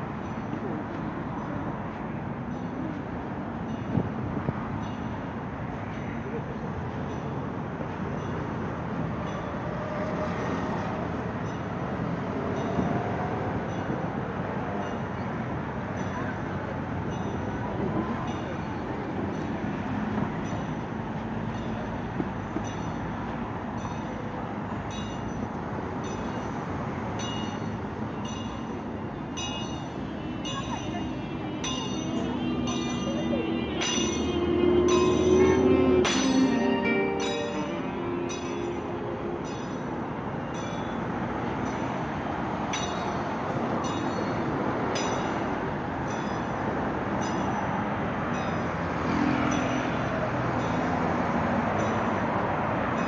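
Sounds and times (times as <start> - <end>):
city traffic rumble: 0.0 - 53.0
passing vehicles: 0.0 - 53.0.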